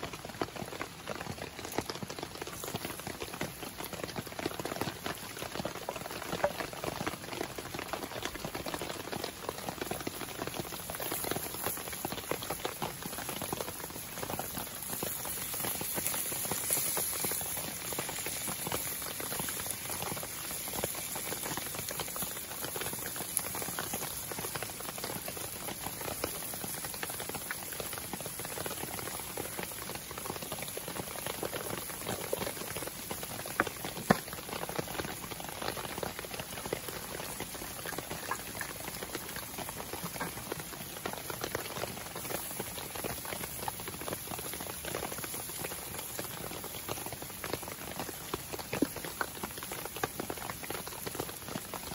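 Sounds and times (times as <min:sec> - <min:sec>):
campfire crackling: 0:00.0 - 0:51.9
rain pattering: 0:00.0 - 0:51.9
food sizzling in a frying pan: 0:00.5 - 0:51.9.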